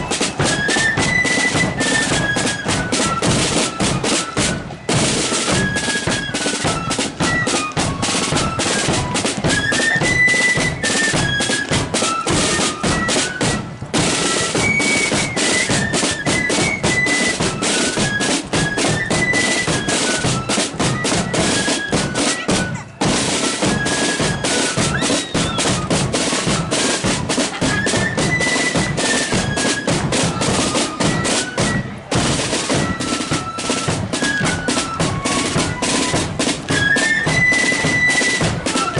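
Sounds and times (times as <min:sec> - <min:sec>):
flutes playing a tune: 0:00.0 - 0:38.9
snare drum rolls: 0:00.0 - 0:38.9.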